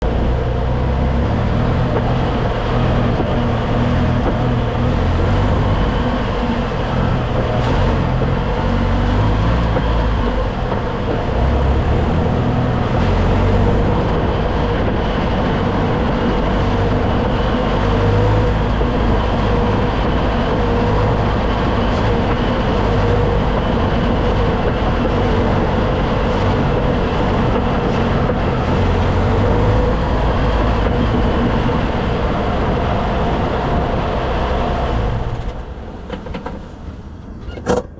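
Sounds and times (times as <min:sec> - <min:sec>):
car engine revving: 0:00.0 - 0:36.8.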